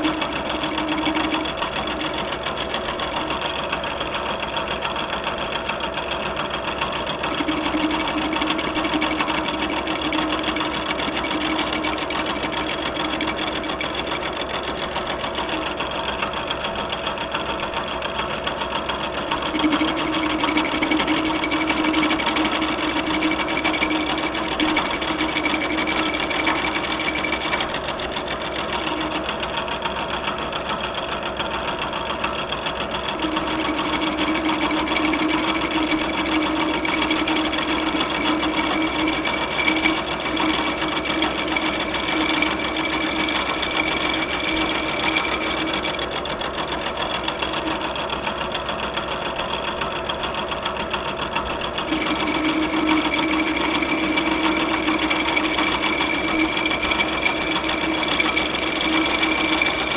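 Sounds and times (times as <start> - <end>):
milling machine whine: 0.0 - 4.4, 6.8 - 16.2, 19.0 - 29.8, 32.9 - 48.2, 51.7 - 59.9.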